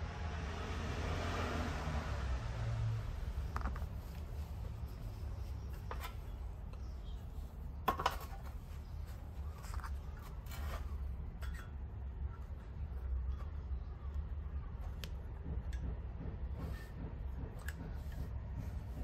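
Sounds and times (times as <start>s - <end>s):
low steady hum: 2.0s - 19.0s.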